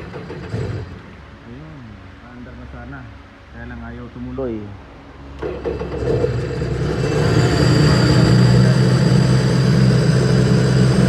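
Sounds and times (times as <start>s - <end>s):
watercraft engine idling: 0.0s - 3.4s, 4.8s - 11.0s.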